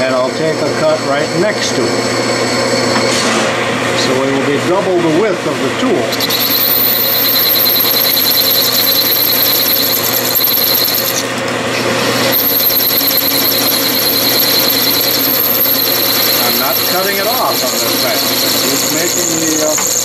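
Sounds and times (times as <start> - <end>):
lathe cutting tool whine: 0.0 - 3.0, 3.8 - 20.0
lathe motor hum: 0.0 - 3.0, 3.7 - 20.0.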